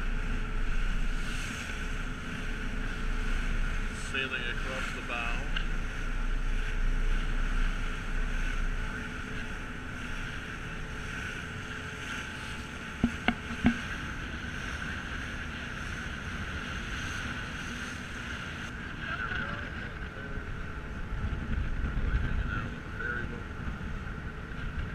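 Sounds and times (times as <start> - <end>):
ferry engine drone: 0.0 - 24.9
wind and water rush: 0.0 - 24.9.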